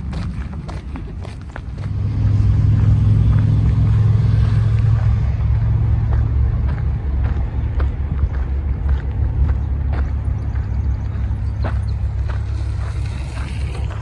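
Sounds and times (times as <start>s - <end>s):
vehicle engine passing by: 1.6s - 14.0s.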